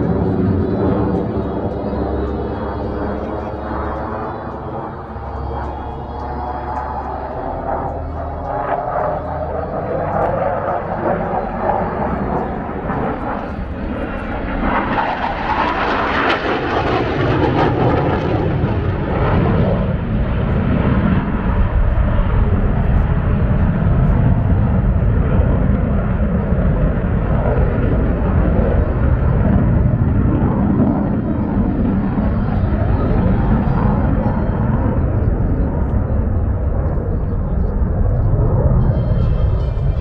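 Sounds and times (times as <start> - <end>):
deep jet rumble: 0.0 - 40.0
jet engine rushing: 0.0 - 40.0.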